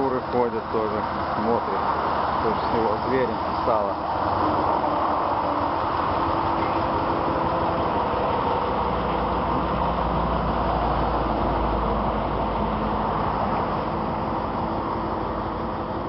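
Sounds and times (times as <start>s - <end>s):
road noise inside cab: 0.0s - 16.0s
truck engine noise: 0.0s - 16.0s.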